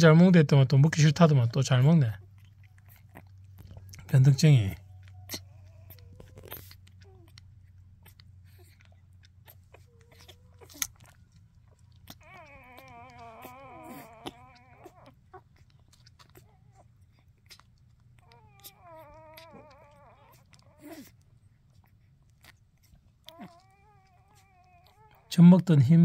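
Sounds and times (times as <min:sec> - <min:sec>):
low steady hum: 0:00.0 - 0:26.0
puppy sucking at bottle: 0:00.4 - 0:25.8
puppy squeaks: 0:00.9 - 0:26.0
puppy whining cry: 0:00.9 - 0:26.0.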